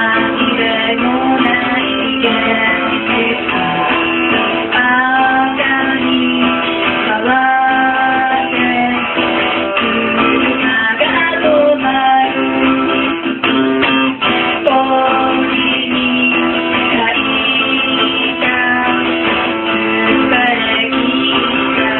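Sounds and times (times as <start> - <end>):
strummed acoustic guitar: 0.0 - 21.9
woman singing: 0.0 - 21.9.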